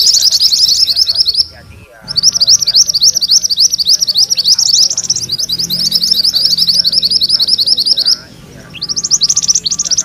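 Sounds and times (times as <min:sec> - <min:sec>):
bird singing rising high notes: 0:00.0 - 0:10.0.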